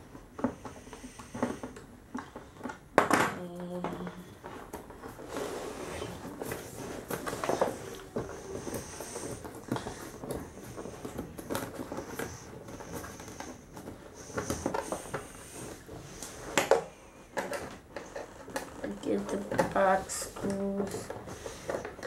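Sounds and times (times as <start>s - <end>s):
scraping on plastic: 0.0s - 22.0s.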